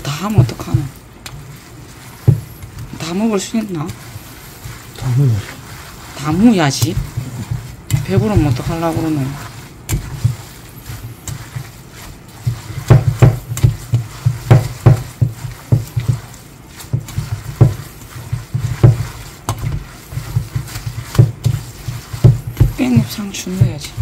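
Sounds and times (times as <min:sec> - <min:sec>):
wet noodles slapping and squelching: 0:00.0 - 0:24.0.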